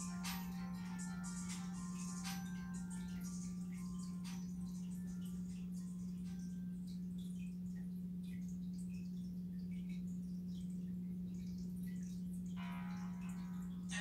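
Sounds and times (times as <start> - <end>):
aquarium pump hum: 0.0 - 14.0
water drip ticks: 0.0 - 14.0.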